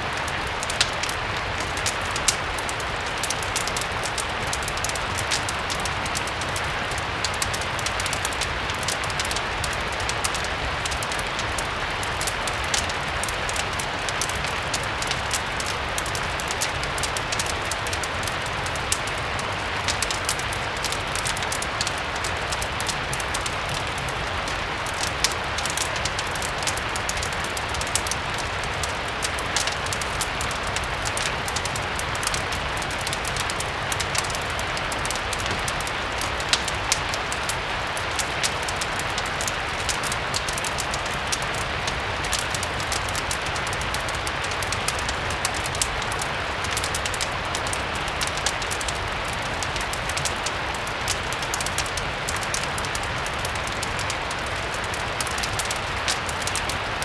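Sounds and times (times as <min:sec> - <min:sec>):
fireplace crackling: 0:00.0 - 0:57.0
steady rain: 0:00.0 - 0:57.0.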